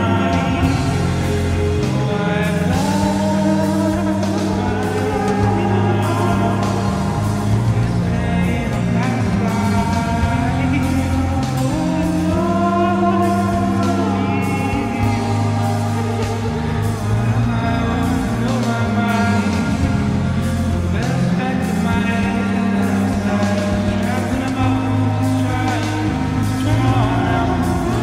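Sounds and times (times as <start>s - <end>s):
held bass line: 0.0s - 28.0s
person singing: 0.0s - 28.0s
steady drum beat: 0.0s - 28.0s.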